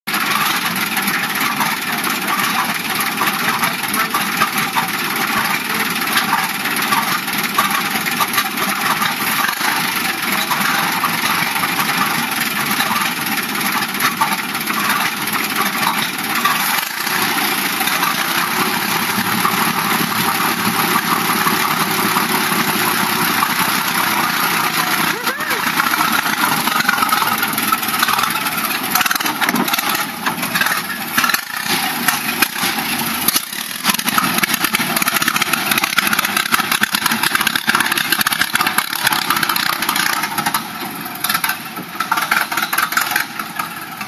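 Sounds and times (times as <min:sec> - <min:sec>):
fire truck engine running: 0:00.0 - 0:44.0.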